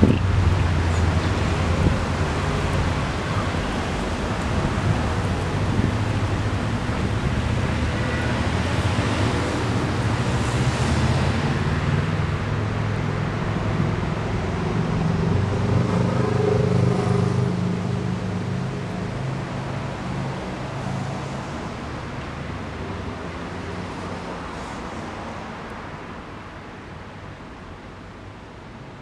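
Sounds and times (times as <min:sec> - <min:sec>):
car passing by: 0:00.0 - 0:25.9.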